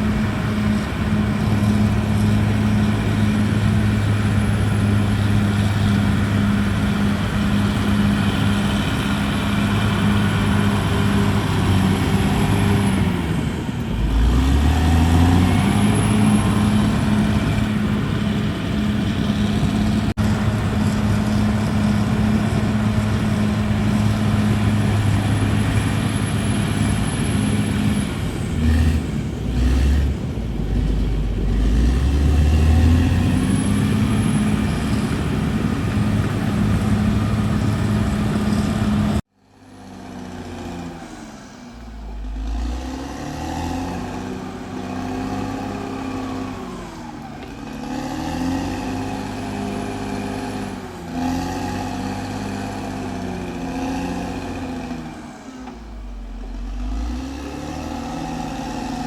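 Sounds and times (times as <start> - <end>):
bulldozer diesel engine under load: 0.0 - 59.0
quieter engine sound: 0.0 - 59.0.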